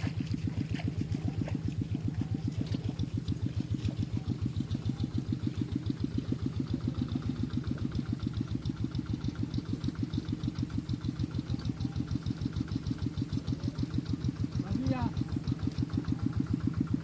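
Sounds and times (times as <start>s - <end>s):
tractor engine chugging: 0.0s - 17.0s.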